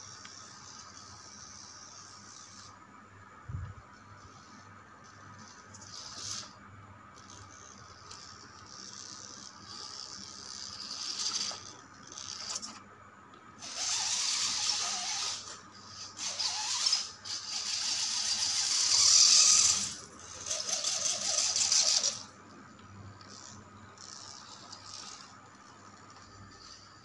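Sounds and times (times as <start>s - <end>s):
toy car motor whirring: 0.0s - 2.8s, 3.5s - 12.8s, 13.6s - 27.0s.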